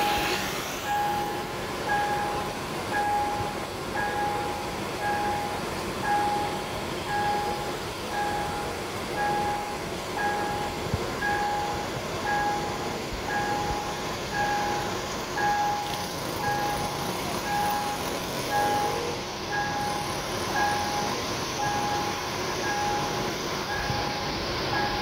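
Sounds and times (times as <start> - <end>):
level crossing warning beeps: 0.0 - 25.0
train rumbling: 0.0 - 25.0.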